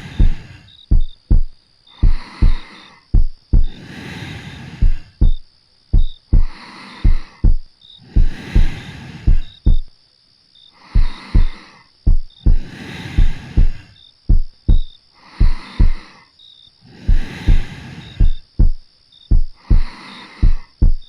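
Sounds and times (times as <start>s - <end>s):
heartbeat thumping: 0.0s - 3.8s, 4.8s - 9.9s, 11.0s - 16.0s, 17.1s - 21.0s
soft slow breathing: 0.0s - 10.0s, 10.7s - 21.0s.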